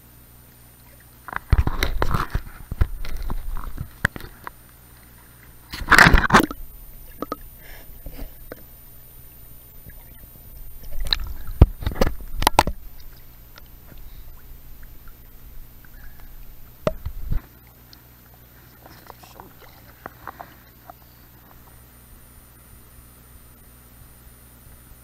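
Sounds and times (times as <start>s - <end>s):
water gurgling: 0.2s - 22.4s
water splashing and sloshing: 0.5s - 21.8s.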